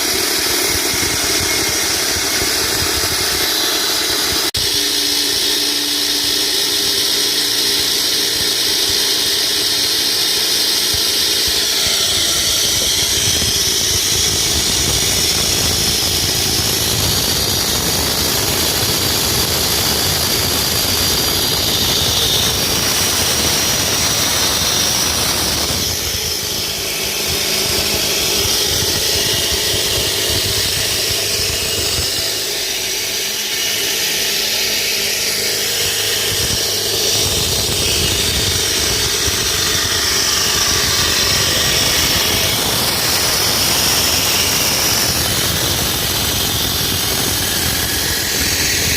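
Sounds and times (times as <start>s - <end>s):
concrete saw cutting concrete: 0.0s - 48.9s.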